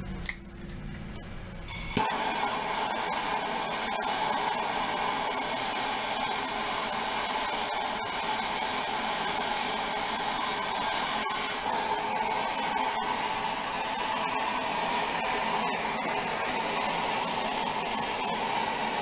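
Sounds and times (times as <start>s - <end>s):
gas torch flame hissing: 1.6s - 19.0s.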